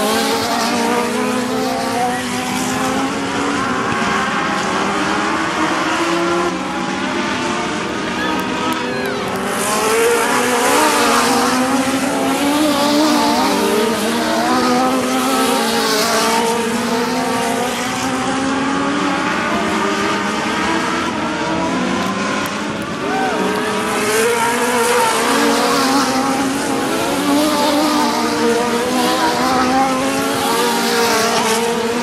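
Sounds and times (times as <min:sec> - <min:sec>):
race car engines: 0:00.0 - 0:32.0.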